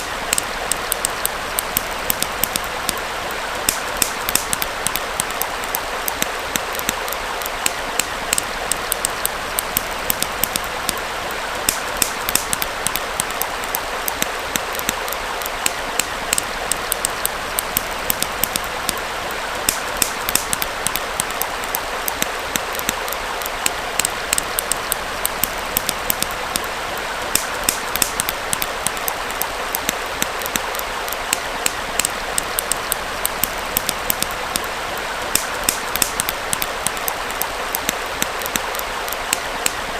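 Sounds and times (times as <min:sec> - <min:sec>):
campfire crackling: 0:00.0 - 0:39.9
forest stream flowing: 0:00.0 - 0:39.9.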